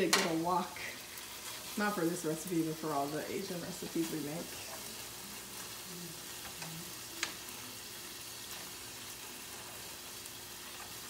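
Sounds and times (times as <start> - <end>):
meat and onions sizzling: 0.0 - 11.0.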